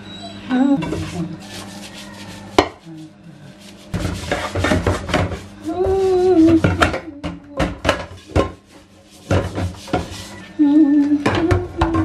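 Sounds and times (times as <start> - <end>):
brush scrubbing frying pan: 0.8 - 6.9, 7.7 - 11.2.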